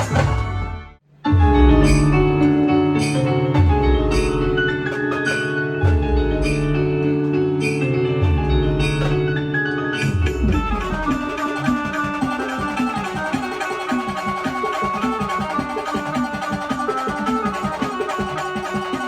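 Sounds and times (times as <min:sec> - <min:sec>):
instrumental band music: 0:00.0 - 0:19.0.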